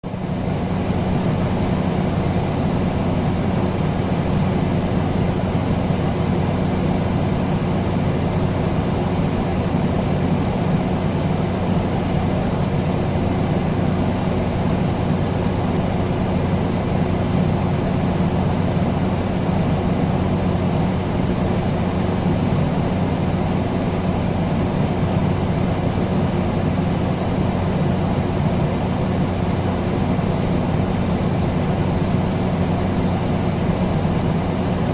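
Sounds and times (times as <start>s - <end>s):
air conditioner running: 0.0s - 34.9s.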